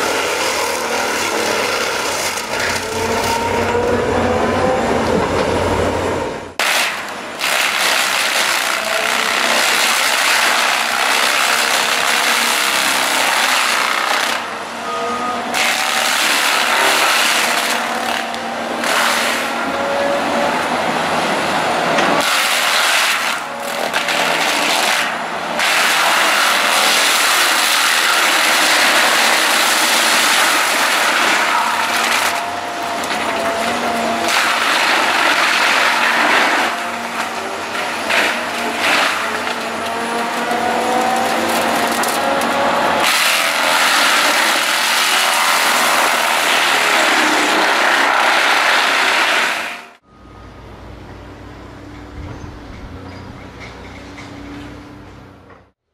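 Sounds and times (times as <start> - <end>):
machinery grinding wood: 0.0 - 50.0.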